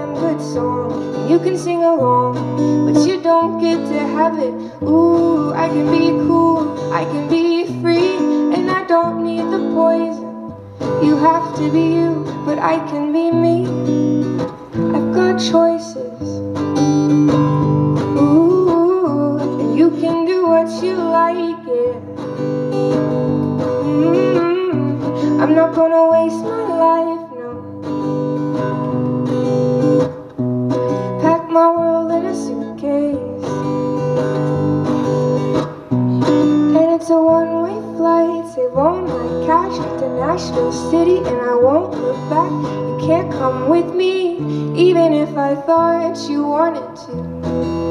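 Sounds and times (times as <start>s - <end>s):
woman singing: 0.0s - 29.4s, 30.7s - 47.9s
acoustic guitar strumming: 0.0s - 47.9s.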